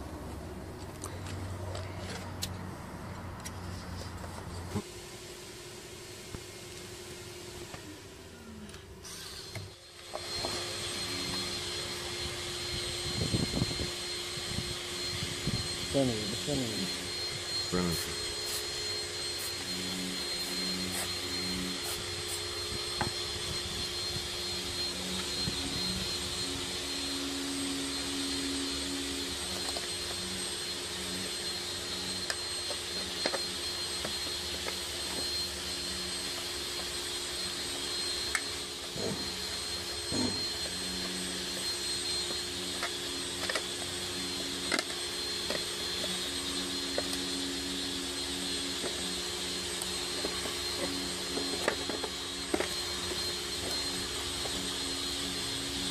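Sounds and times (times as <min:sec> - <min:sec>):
machine whirring: 0:09.1 - 0:55.9.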